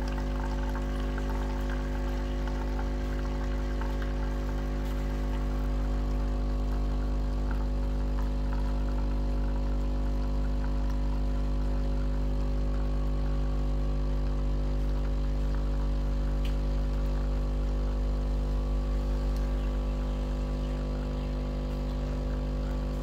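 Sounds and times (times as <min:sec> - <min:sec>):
espresso machine pump humming: 0:00.0 - 0:23.0.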